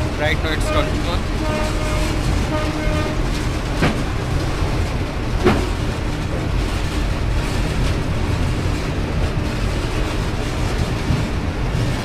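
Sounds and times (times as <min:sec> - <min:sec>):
locomotive cab low rumble: 0:00.0 - 0:12.0.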